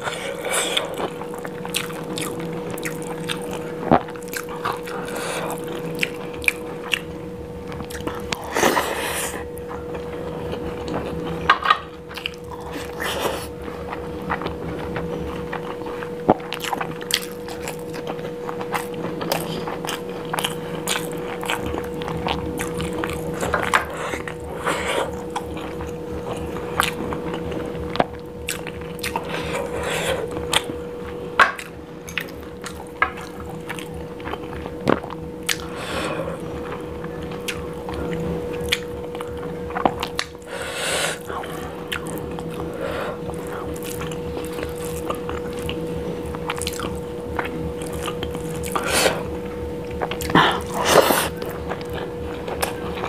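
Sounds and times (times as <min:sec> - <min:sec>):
faint steady hum: 0:00.0 - 0:53.0
wet chewing and mouth sounds: 0:00.0 - 0:53.0.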